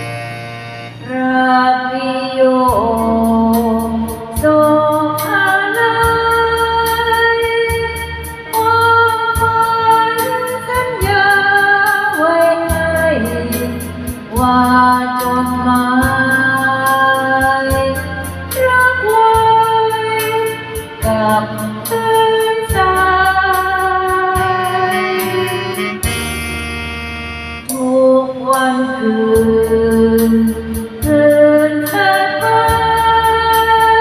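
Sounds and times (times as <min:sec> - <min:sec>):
karaoke backing track: 0:00.0 - 0:34.0
woman singing a slow ballad: 0:01.0 - 0:25.9, 0:27.7 - 0:34.0.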